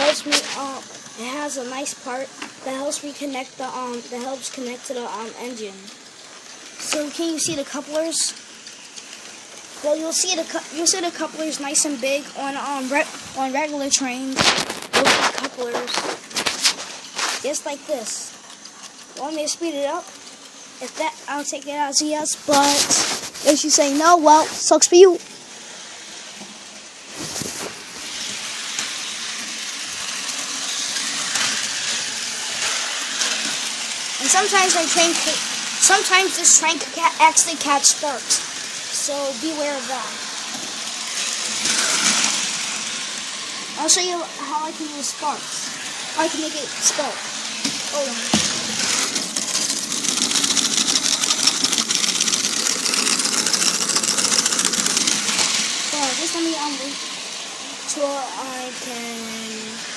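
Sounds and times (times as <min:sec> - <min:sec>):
model train wheels clattering: 0:00.0 - 0:26.6, 0:27.2 - 0:59.9
model train motor whirring: 0:00.0 - 0:59.9.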